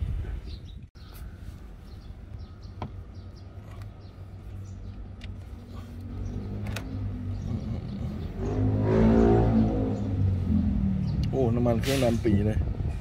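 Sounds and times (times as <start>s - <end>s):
motor vehicle engine: 2.4s - 13.0s.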